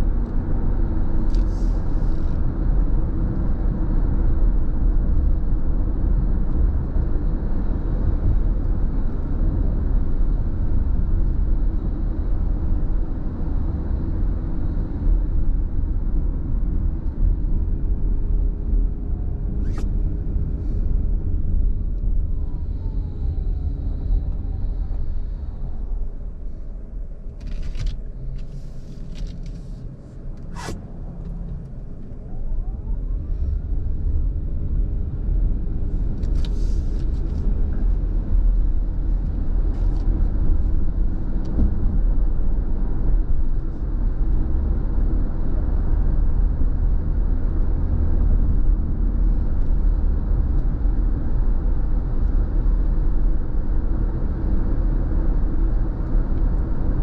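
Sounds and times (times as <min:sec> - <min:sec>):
car road noise on wet road: 0:00.0 - 0:26.6, 0:27.4 - 0:57.0.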